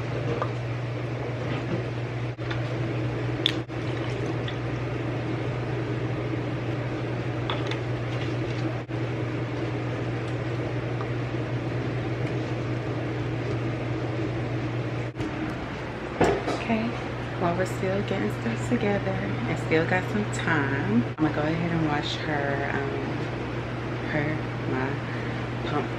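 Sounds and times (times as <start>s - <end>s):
constant low hum: 0.0s - 25.9s.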